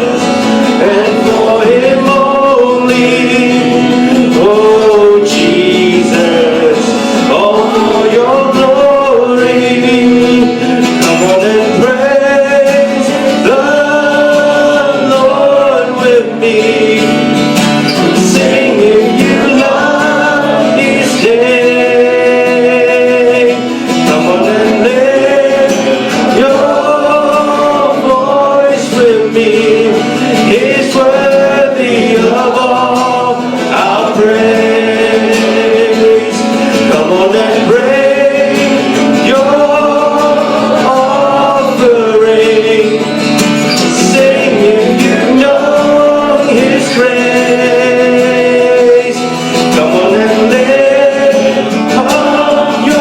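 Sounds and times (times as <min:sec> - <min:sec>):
guitar accompaniment: 0:00.0 - 0:53.0
voices singing: 0:00.0 - 0:53.0.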